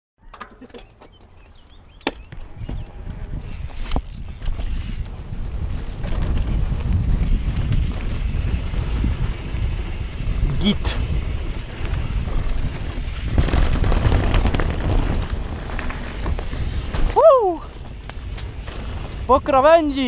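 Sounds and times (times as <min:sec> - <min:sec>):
bike knocks and rattles: 0:00.2 - 0:10.4, 0:11.1 - 0:19.6
wind rushing over microphone: 0:01.5 - 0:20.0.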